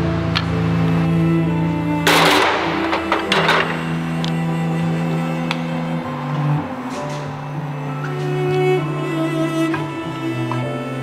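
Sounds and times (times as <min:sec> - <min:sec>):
background music with low notes: 0:00.0 - 0:11.0.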